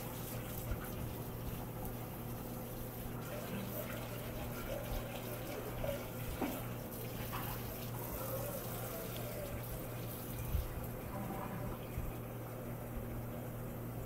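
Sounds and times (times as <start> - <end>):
running water hiss: 0.0 - 12.2
low electrical hum: 0.0 - 14.0.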